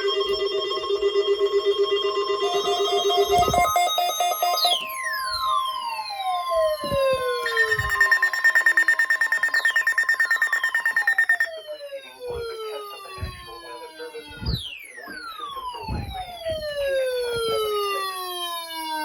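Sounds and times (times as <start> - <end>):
steady high alarm tone: 0.1 - 19.0
falling siren-like glides: 2.4 - 19.0.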